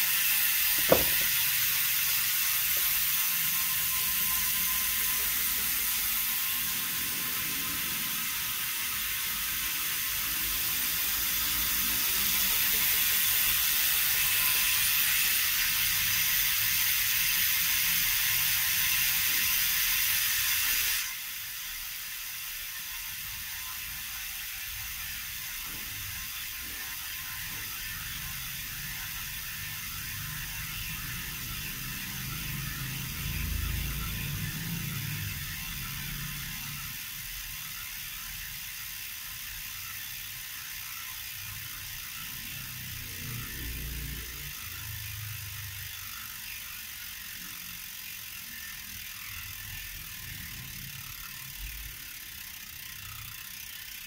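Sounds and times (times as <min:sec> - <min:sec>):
bicycle freehub clicking buzz: 0:00.0 - 0:54.0.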